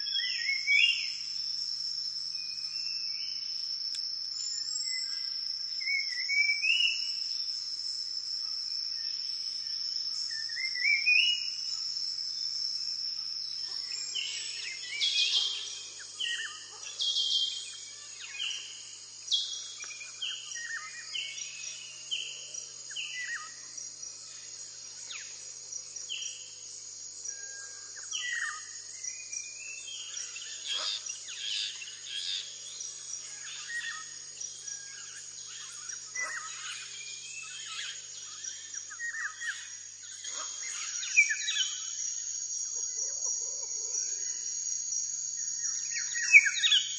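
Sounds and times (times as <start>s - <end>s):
high insect trill: 0.0s - 46.9s.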